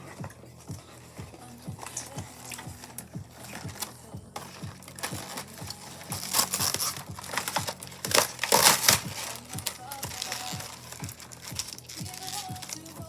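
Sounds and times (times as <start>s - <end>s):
background music with beat: 0.0s - 13.0s
plastic packaging crinkling: 0.0s - 13.0s.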